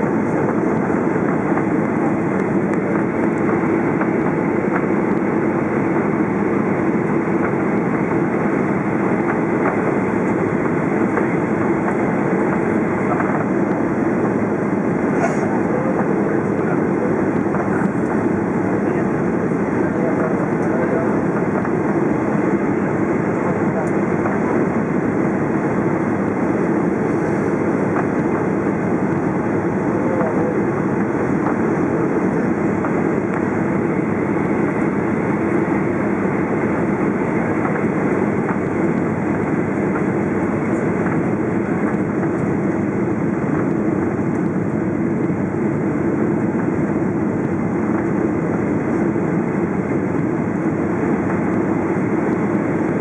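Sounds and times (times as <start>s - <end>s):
airplane cabin engine roar: 0.0s - 53.0s.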